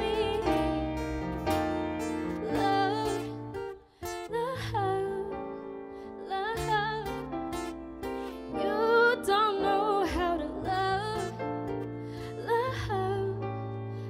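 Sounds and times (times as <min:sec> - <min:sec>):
woman singing into a microphone: 0:00.0 - 0:01.1, 0:02.3 - 0:07.4, 0:08.4 - 0:14.0
instrumental backing music: 0:00.0 - 0:14.0.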